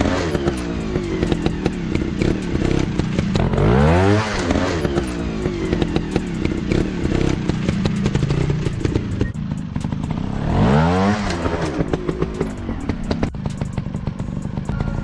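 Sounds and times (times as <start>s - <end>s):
dirt bike engines revving: 0.0s - 15.0s
clattering and ticking: 0.3s - 3.6s, 4.5s - 15.0s.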